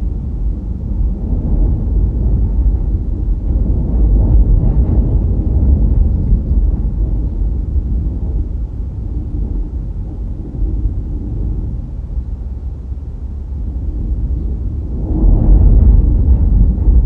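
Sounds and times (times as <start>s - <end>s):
wind and road noise in car: 0.0s - 17.0s.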